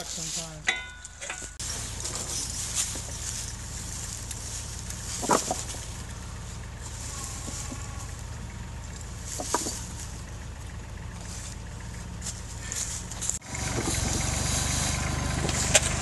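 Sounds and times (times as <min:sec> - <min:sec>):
chain rustling in dry leaves: 0:00.0 - 0:13.4
tractor engine idling: 0:00.0 - 0:16.0.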